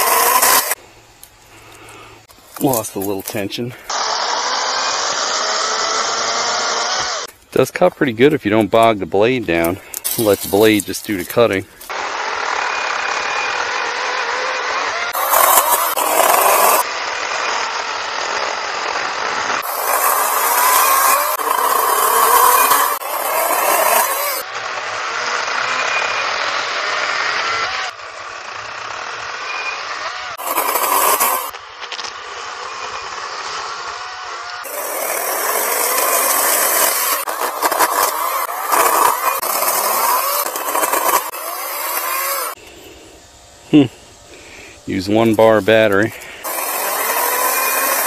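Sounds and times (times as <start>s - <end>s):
chainsaw motor whine: 0.0s - 48.0s.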